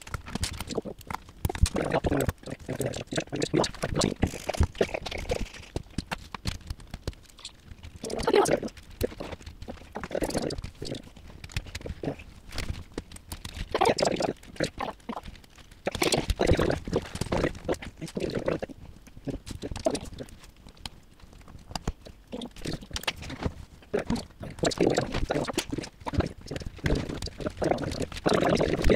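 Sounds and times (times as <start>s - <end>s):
plastic pieces clicking and rattling: 0.0s - 28.9s.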